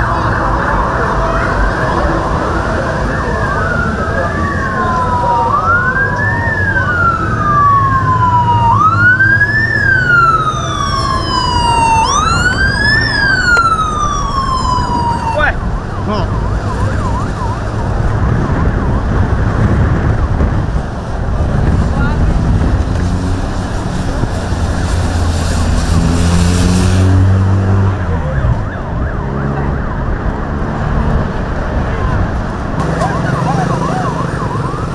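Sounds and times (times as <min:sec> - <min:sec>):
engine and road noise: 0:00.0 - 0:34.9
low rumble of vehicles: 0:00.0 - 0:34.9
sirens wailing: 0:00.0 - 0:34.9.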